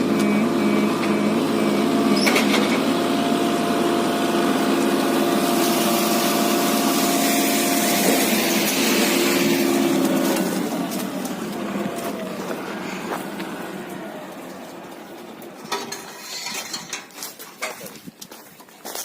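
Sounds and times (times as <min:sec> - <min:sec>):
tractor diesel engine running: 0:00.0 - 0:18.4.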